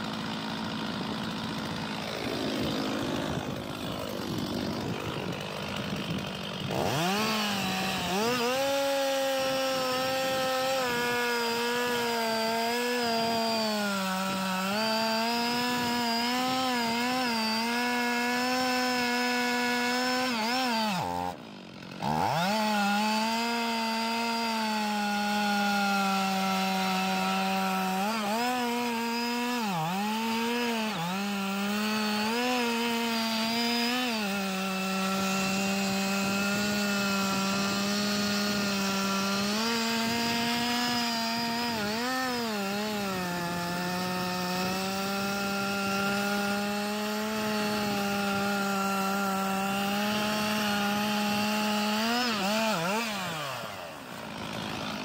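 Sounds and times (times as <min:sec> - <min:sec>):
chainsaw cutting tree trunk: 0:00.0 - 0:55.0.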